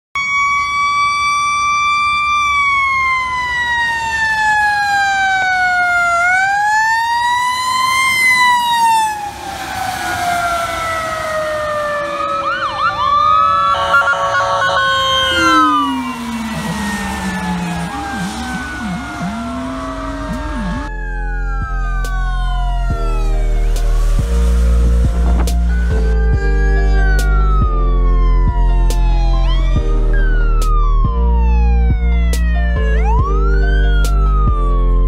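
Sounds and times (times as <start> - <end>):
fire engine siren wailing: 0.1 - 35.0
ambulance siren yelping: 0.2 - 35.0.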